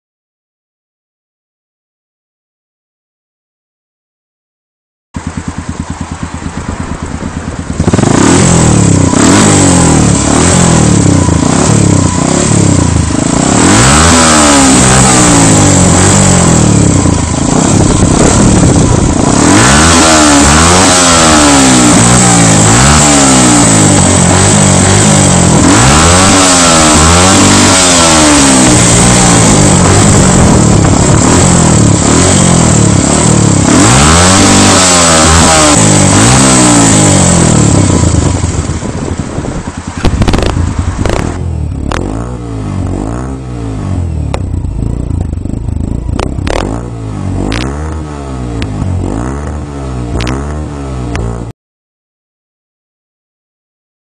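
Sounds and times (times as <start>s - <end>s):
motorcycle engine revving: 5.2s - 51.5s.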